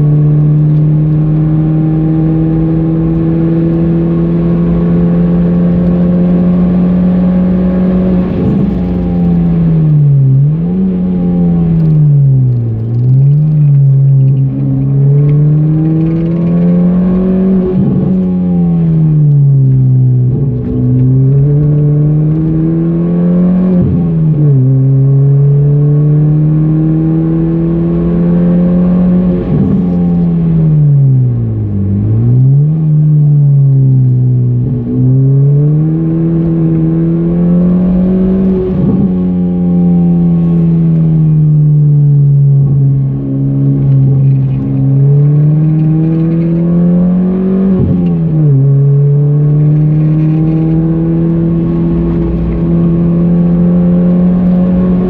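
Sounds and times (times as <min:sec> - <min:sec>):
car engine revving and braking: 0:00.0 - 0:55.0.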